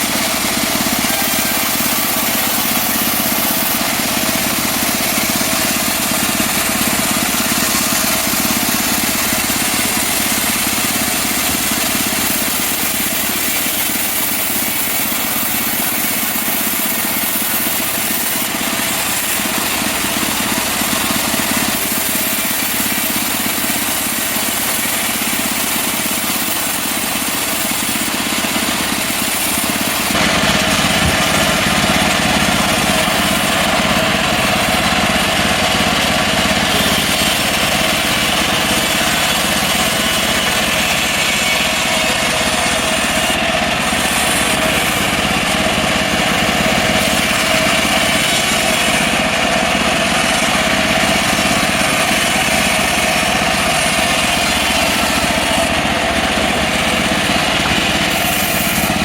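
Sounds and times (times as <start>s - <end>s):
small petrol engine running: 0.0s - 59.0s.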